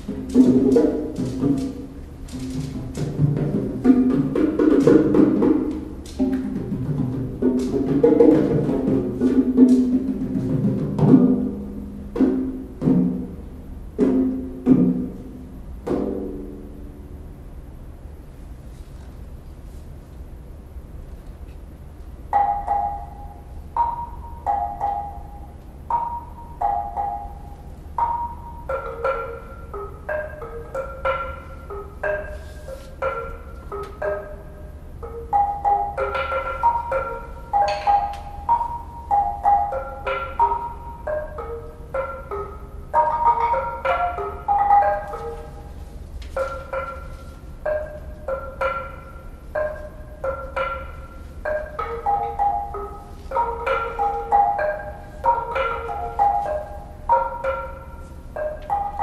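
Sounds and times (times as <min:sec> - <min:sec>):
woodblocks struck with sticks: 0:00.0 - 0:13.4, 0:22.3 - 0:23.2, 0:23.8 - 0:59.0.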